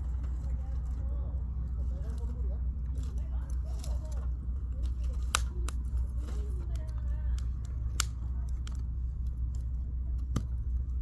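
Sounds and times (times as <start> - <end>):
campfire crackling: 0.0 - 11.0
low rumble: 0.0 - 11.0.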